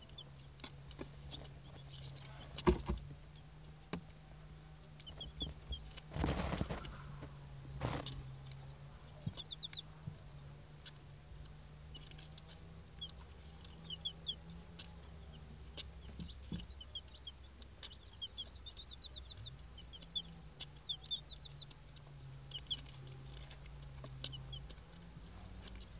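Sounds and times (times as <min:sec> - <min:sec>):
chicks peeping: 0:00.0 - 0:25.9.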